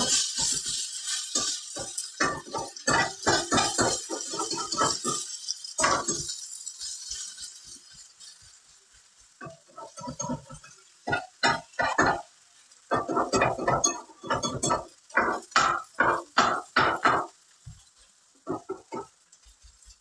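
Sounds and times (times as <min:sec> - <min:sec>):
frying hiss: 0:00.0 - 0:20.0
utensils clinking against a pan: 0:00.0 - 0:20.0.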